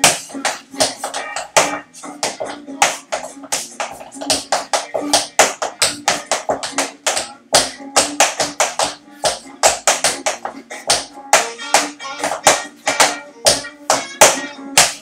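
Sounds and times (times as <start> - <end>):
tap shoes on tap board: 0.0 - 15.0.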